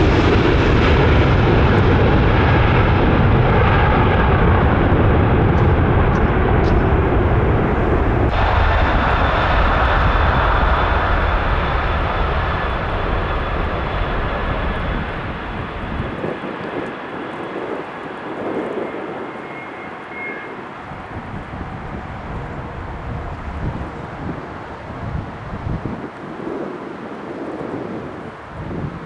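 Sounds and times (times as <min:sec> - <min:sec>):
jet airliner engine noise: 0:00.0 - 0:29.0.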